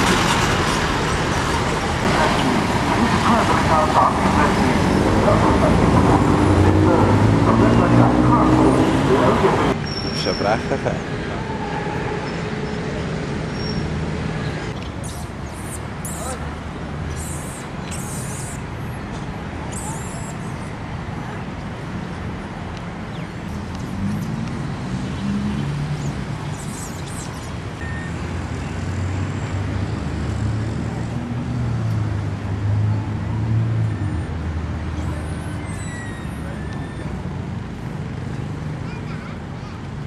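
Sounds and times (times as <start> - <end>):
vehicle engines rumbling: 0.0 - 40.0.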